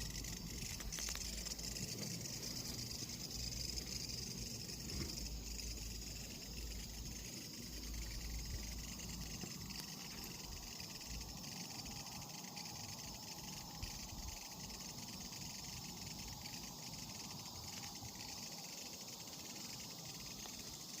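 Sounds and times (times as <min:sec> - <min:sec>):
insect trilling: 0:00.0 - 0:21.0.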